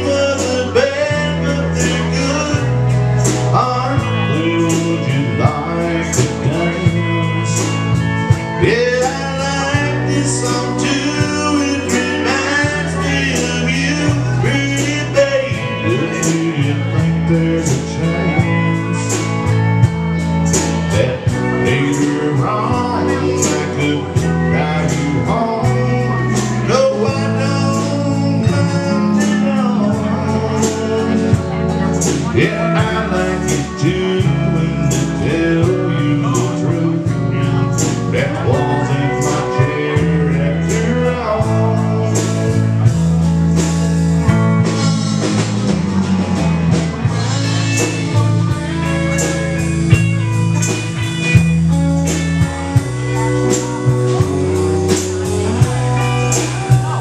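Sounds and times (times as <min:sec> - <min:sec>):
bass notes: 0:00.0 - 0:57.0
electric guitar: 0:00.0 - 0:57.0
steady drum beat: 0:00.0 - 0:57.0.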